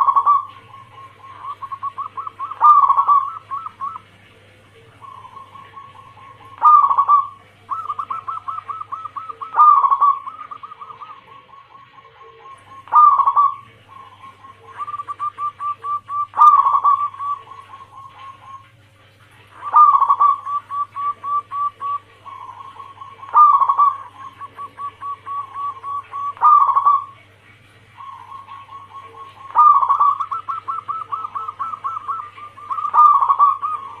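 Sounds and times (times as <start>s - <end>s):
dove cooing: 0.0s - 34.0s.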